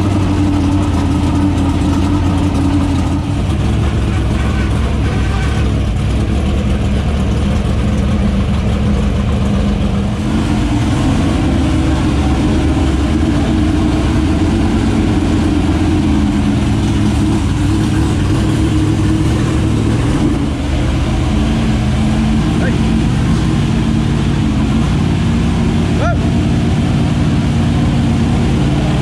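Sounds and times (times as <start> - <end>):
race car engine idling: 0.0 - 29.0.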